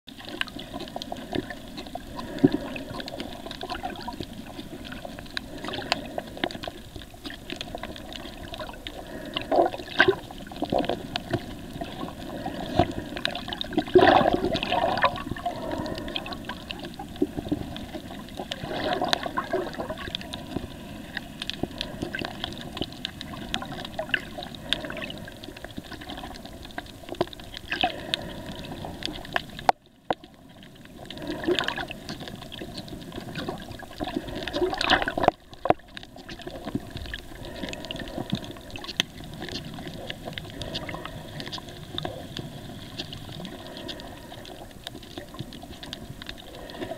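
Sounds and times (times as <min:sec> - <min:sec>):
underwater sloshing and gurgling: 0:00.1 - 0:46.9.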